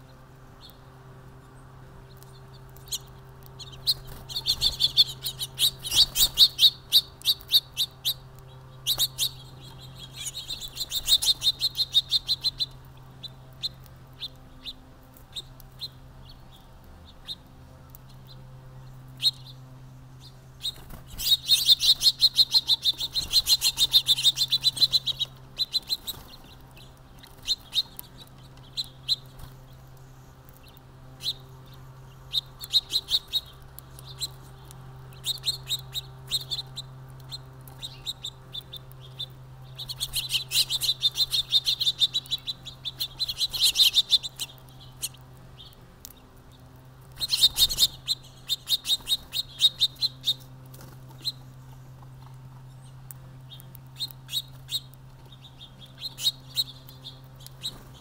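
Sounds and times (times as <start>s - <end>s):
faint low hum: 0.0s - 58.0s
small birds chirping: 0.0s - 58.0s.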